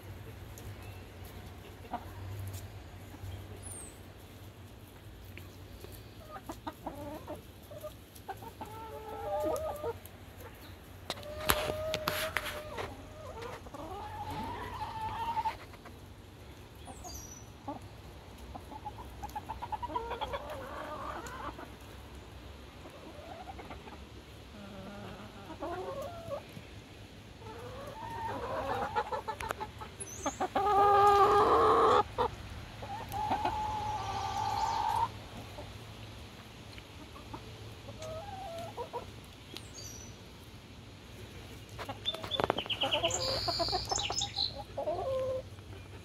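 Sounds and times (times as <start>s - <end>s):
hens clucking: 0.0s - 46.0s.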